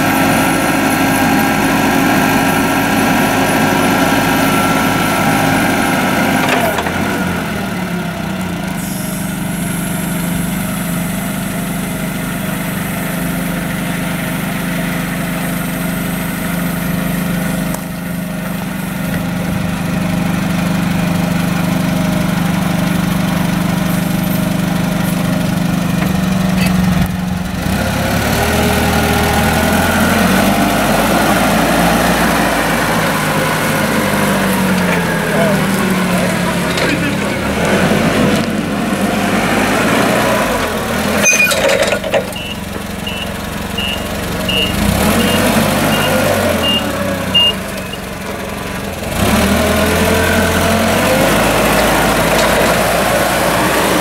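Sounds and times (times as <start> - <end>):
forklift engine running: 0.0 - 54.0.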